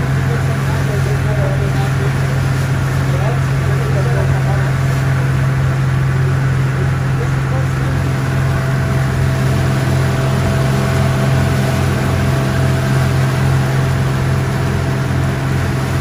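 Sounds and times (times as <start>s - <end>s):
engine humming with low pulsing: 0.0s - 16.0s.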